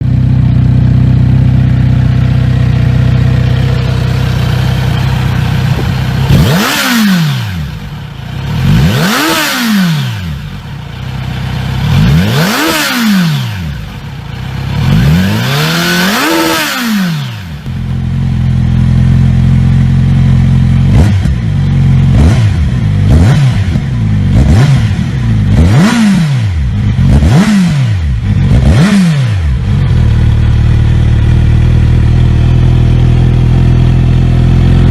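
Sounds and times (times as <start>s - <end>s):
motorcycle engine idling: 0.0s - 34.9s
motorcycle engine revving: 0.0s - 34.9s.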